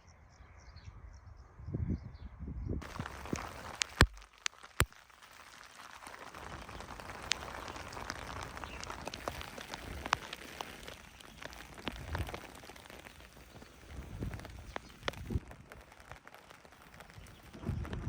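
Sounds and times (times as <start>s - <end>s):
rain falling: 2.8s - 18.0s
raindrops tapping: 2.8s - 18.0s.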